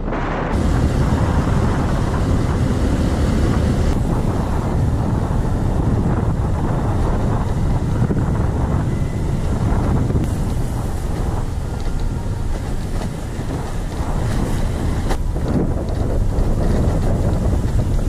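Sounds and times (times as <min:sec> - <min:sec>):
motorcycle engine and road noise: 0:00.0 - 0:18.0
wind rumbling over microphone: 0:00.0 - 0:18.0.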